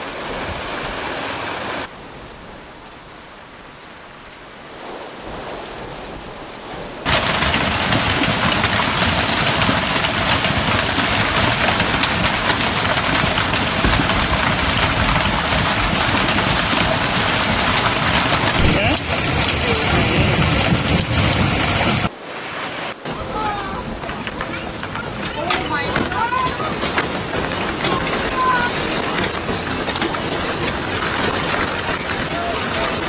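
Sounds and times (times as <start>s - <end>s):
hail and rain pelting: 0.0s - 33.0s
strong wind: 0.0s - 33.0s.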